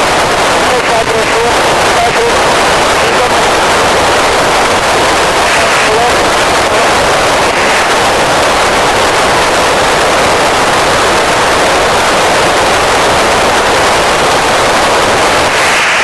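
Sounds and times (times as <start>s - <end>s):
radio receiver hiss: 0.0s - 16.0s.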